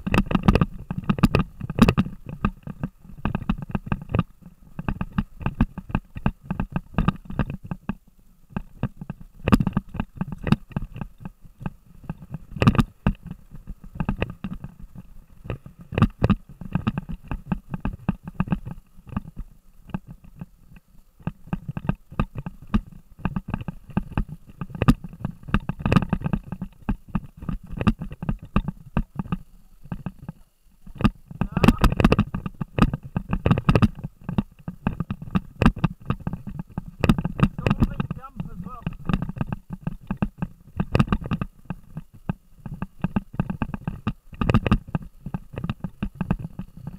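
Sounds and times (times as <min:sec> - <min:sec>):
camera knocking and rattling on mount: 0:00.0 - 0:08.0, 0:08.6 - 0:19.3, 0:21.2 - 0:46.9.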